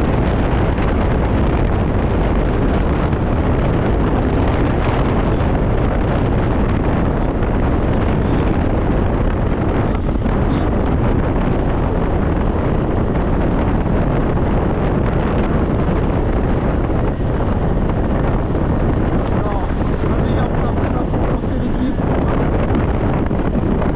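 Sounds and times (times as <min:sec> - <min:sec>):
wind rushing over microphone: 0:00.0 - 0:23.9.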